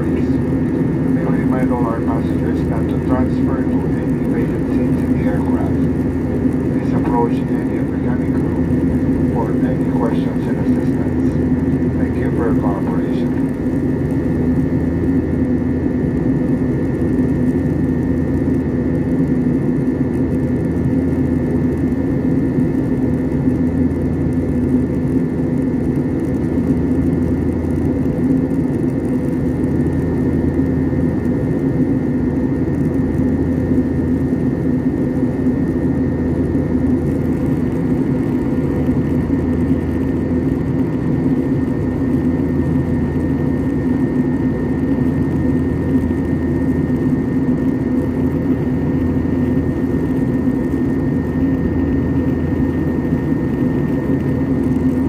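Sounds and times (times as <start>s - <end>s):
jet cabin engine rush: 0.0s - 55.0s
thin steady whine: 0.0s - 55.0s.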